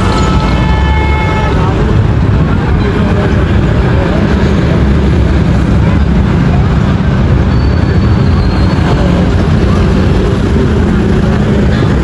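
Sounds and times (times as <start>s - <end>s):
vehicle engines and road noise: 0.0s - 12.0s.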